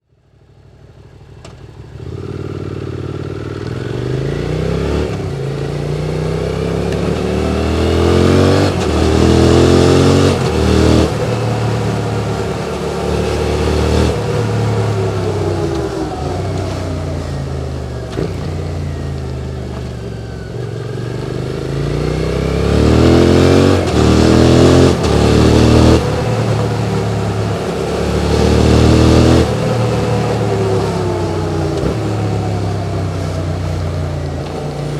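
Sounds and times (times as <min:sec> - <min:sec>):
motorcycle engine revving: 0:00.9 - 0:34.9.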